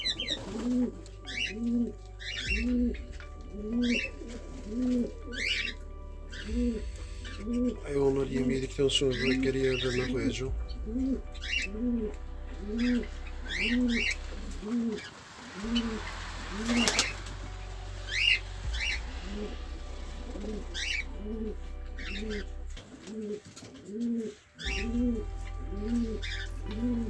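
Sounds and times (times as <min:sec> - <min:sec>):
pigeons cooing: 0:00.0 - 0:17.4, 0:18.1 - 0:27.0
small birds chirping: 0:00.0 - 0:19.5, 0:20.2 - 0:27.0.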